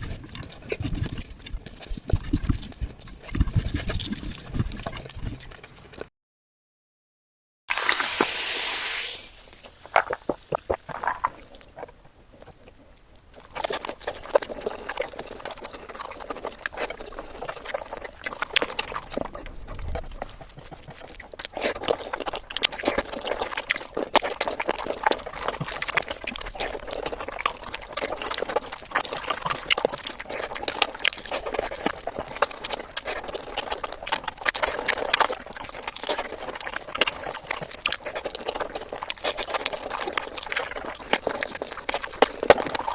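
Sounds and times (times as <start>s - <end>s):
wet chewing and lip-smacking: 0.0s - 6.1s, 9.4s - 42.9s.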